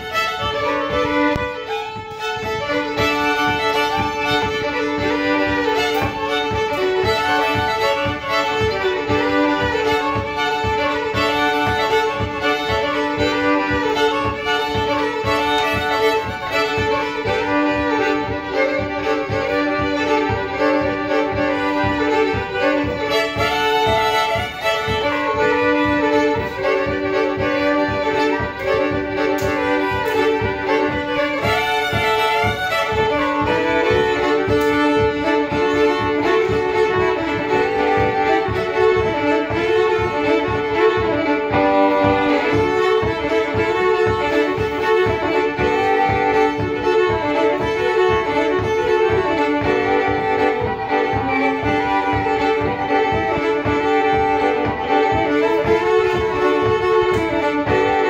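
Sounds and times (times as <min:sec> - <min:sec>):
fiddle playing lively tune: 0:00.0 - 0:58.0
stringed instrument rhythm strokes: 0:00.0 - 0:58.0.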